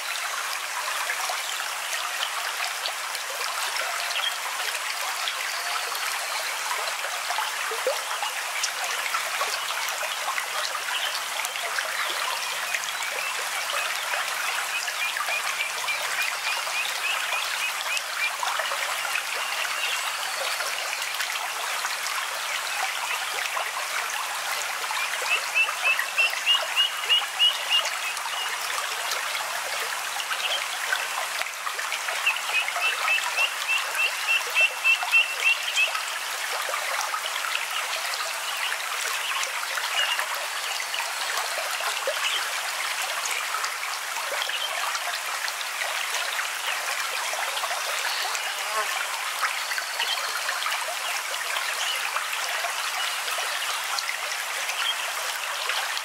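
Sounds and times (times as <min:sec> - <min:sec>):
running water babbling: 0:00.0 - 0:56.0.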